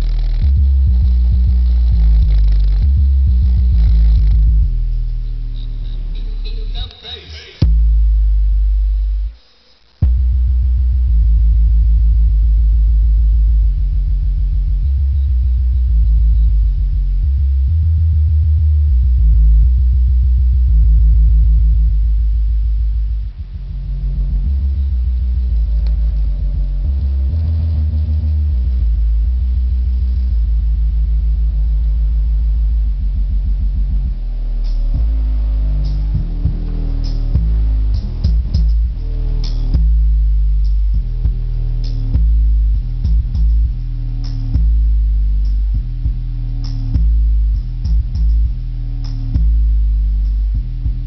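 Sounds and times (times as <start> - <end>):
bass-heavy music through subwoofers: 0.0 - 51.0.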